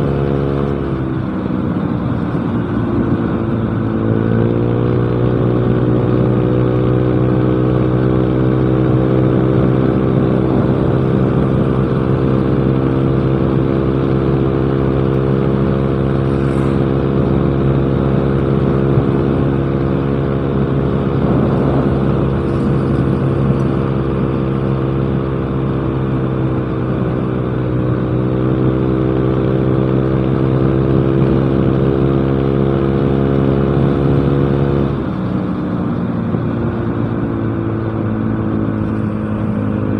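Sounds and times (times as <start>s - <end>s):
scooter engine cruising: 0.0s - 39.9s.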